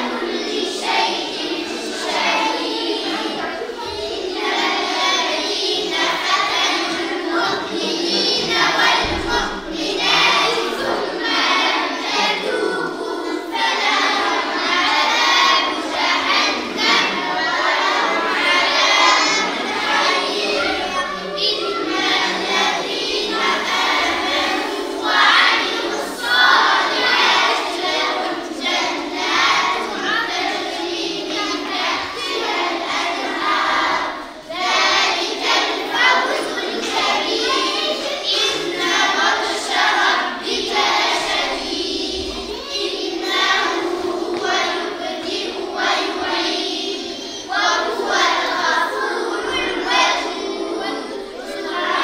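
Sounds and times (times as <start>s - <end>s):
children chanting in unison: 0.0s - 52.0s.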